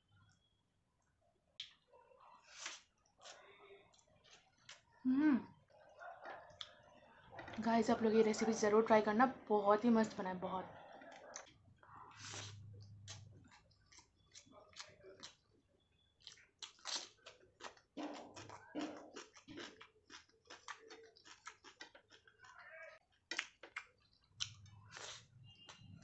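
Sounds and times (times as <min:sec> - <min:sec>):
person chewing food: 0:01.6 - 0:07.6, 0:10.8 - 0:26.0.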